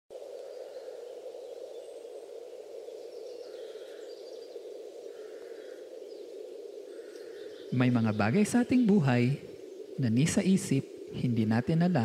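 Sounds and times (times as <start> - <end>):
steady outdoor noise: 0.1 - 12.0
faint bird chirps: 0.2 - 12.0.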